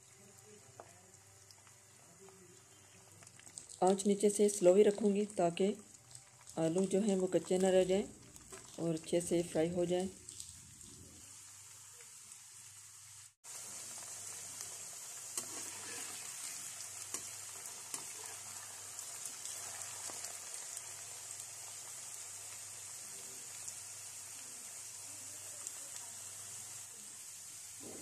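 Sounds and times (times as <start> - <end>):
potatoes deep-frying in oil: 0.0 - 28.0.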